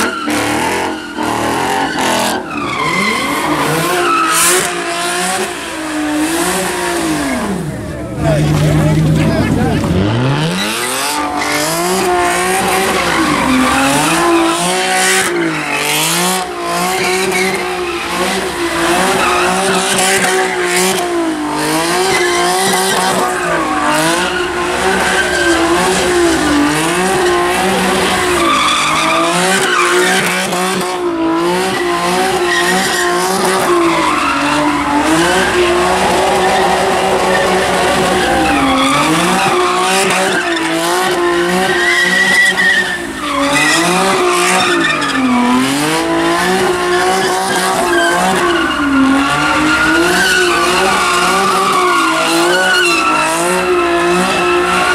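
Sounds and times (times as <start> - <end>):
tyres squealing: 0.0 - 30.6, 31.7 - 54.9
car engine revving high: 0.0 - 54.9.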